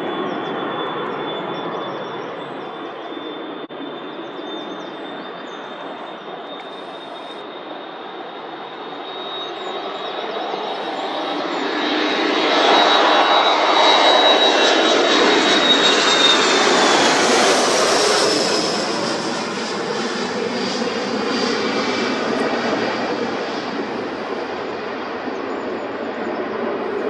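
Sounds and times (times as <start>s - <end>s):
jet engines at takeoff: 0.0s - 27.0s.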